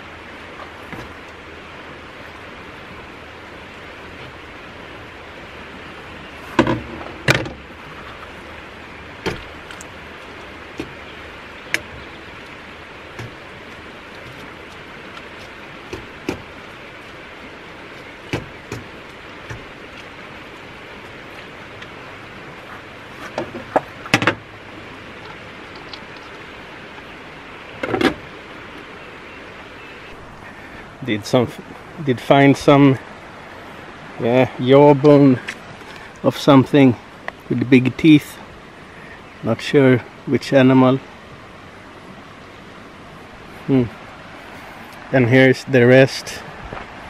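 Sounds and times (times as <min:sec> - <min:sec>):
river rushing: 0:00.0 - 0:47.0.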